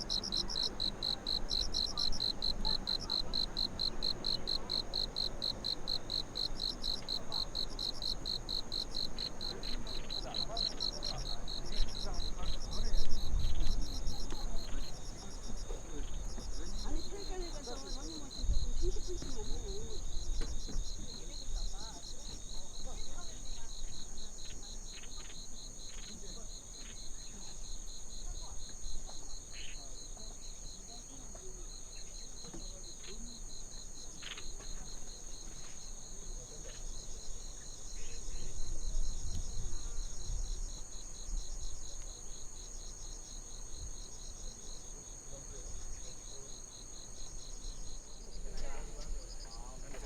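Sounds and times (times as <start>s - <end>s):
insects trilling and chirping: 0.0s - 50.0s.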